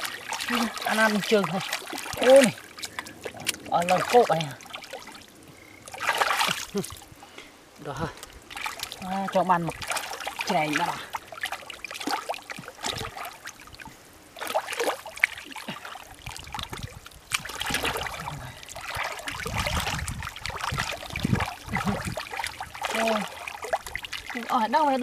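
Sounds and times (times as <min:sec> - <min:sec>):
muddy water sloshing and splashing: 0:00.0 - 0:25.0.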